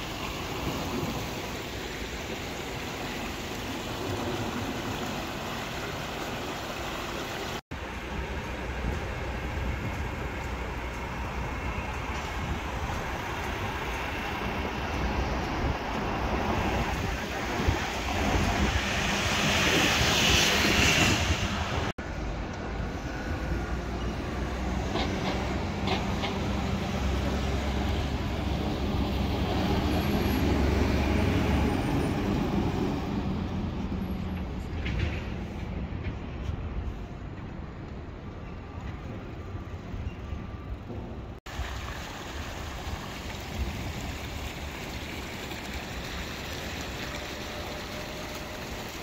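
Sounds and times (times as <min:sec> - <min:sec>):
rumble of passing vehicles: 0:00.0 - 0:49.0.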